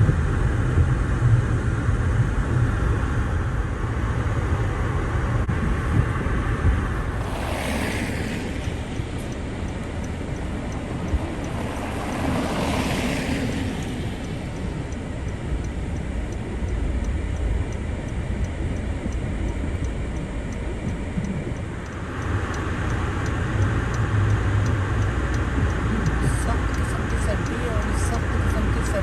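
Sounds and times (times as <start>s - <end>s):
engine rumbling: 0.0s - 29.0s.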